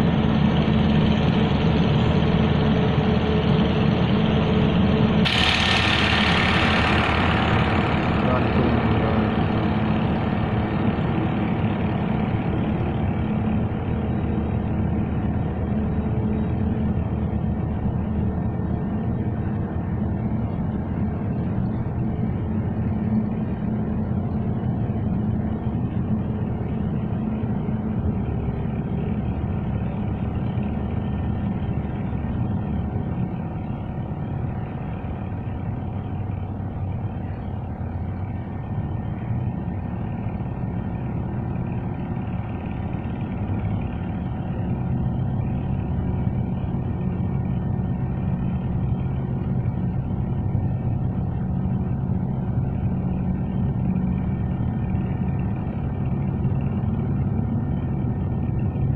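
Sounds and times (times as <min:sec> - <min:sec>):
machine engine low hum: 0:00.0 - 0:58.9.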